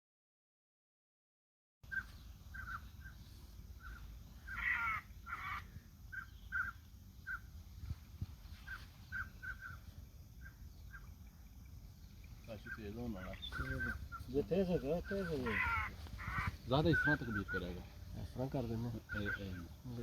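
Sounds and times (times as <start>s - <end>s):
birds calling: 1.8s - 20.0s
harsh bird calls: 1.8s - 20.0s.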